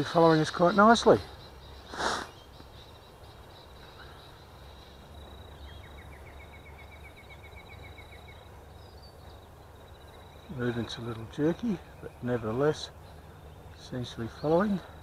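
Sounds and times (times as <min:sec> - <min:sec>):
high insect drone: 0:00.0 - 0:15.0
rapid insect chirps: 0:00.0 - 0:15.0.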